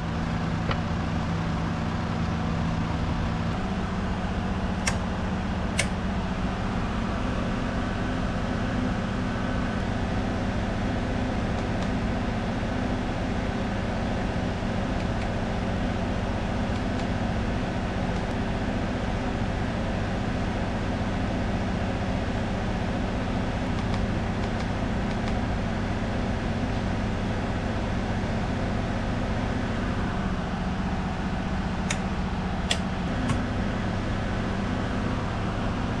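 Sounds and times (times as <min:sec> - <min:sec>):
low mechanical drone: 0:00.0 - 0:36.0.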